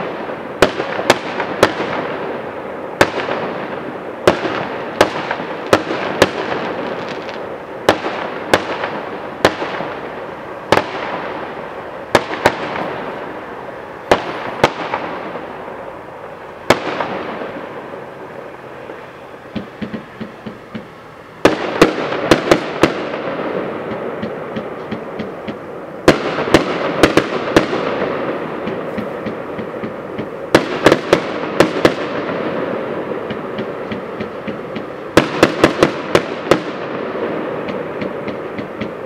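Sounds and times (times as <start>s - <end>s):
fireworks bangs: 0.0s - 39.0s
fireworks crackling hiss: 0.0s - 39.0s.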